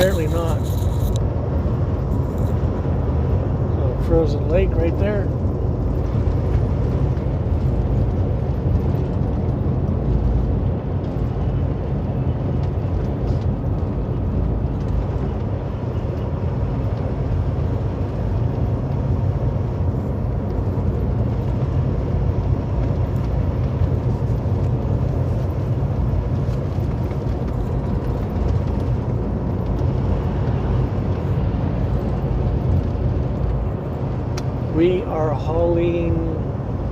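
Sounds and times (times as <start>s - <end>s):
road noise: 0.0s - 36.9s
truck engine droning: 0.0s - 36.9s.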